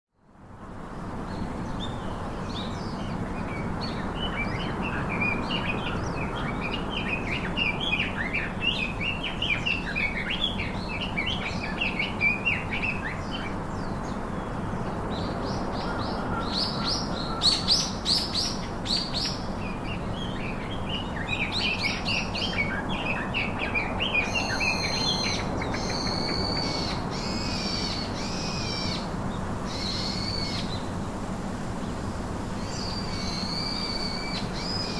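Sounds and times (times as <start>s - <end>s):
steady background hiss: 0.2s - 34.9s.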